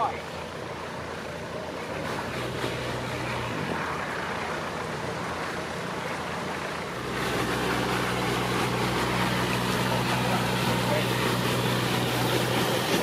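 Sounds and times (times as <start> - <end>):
deeper boat engine hum: 0.0 - 13.0
motor boat engines humming: 0.0 - 13.0.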